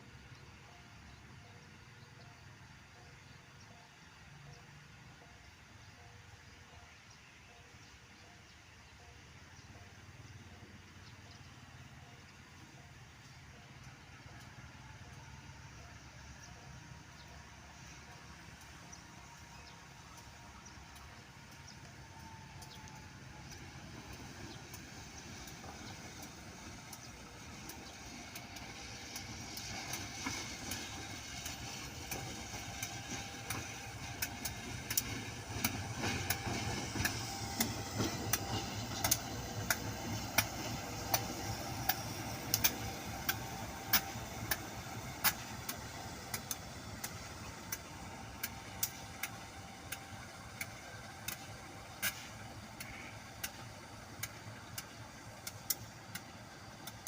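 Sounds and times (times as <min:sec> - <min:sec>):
sharp clicks of train wheels: 0:00.0 - 0:57.0
train engine rumble: 0:00.0 - 0:57.0.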